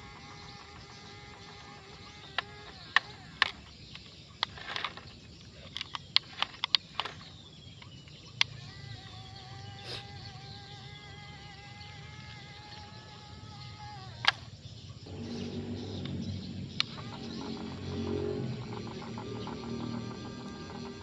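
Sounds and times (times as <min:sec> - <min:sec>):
small electric motor whining: 0:00.0 - 0:21.0.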